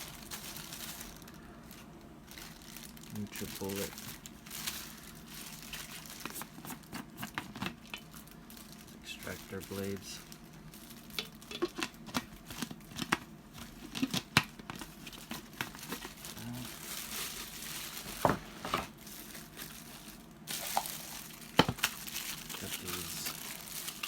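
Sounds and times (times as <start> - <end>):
packaging rustling: 0.0 - 24.0.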